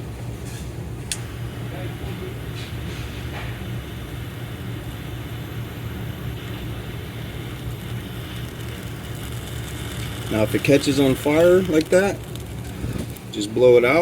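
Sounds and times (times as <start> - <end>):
butane torch flame roaring: 0.4 - 14.0.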